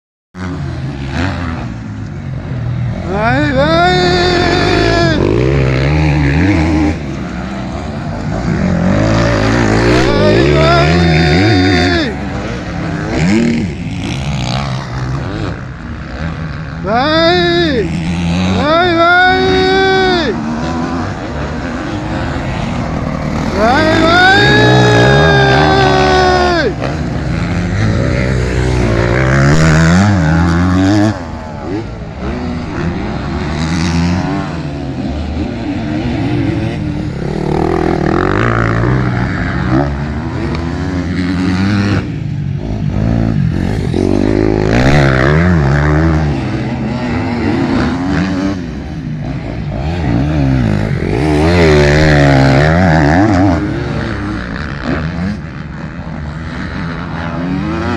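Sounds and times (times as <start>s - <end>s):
motocross motorcycles revving: 0.4s - 57.9s.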